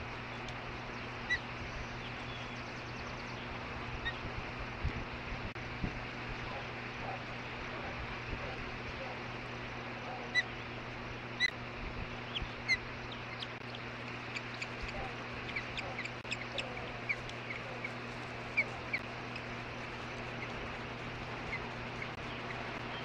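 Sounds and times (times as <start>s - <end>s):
birds chirping: 0.0s - 4.3s, 6.2s - 23.0s
low electrical hum: 0.0s - 23.0s.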